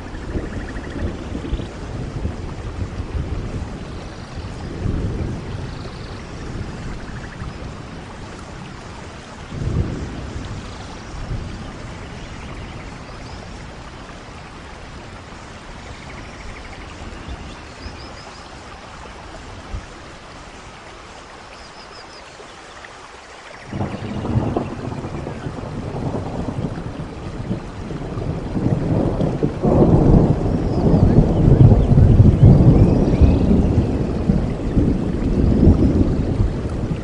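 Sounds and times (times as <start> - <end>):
distant thunder rumbles: 0.0 - 20.5, 23.6 - 37.0
soft rain falling: 0.0 - 37.0.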